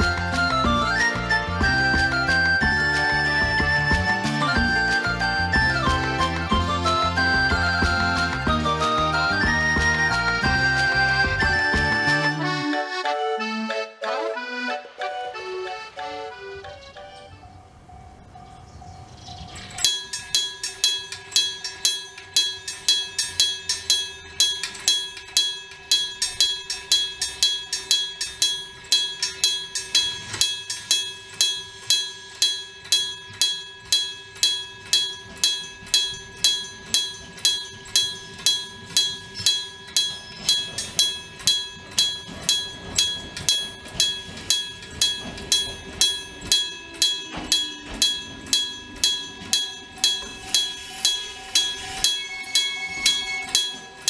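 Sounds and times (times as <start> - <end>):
level-crossing warning gong: 0.0 - 12.6, 15.3 - 54.0.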